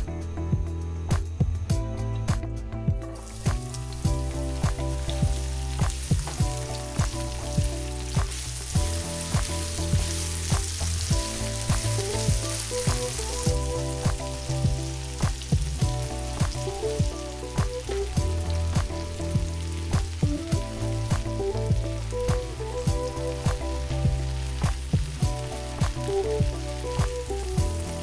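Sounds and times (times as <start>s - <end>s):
background music with steady beat: 0.0s - 28.0s
peppers sizzling in a pan: 3.0s - 28.0s.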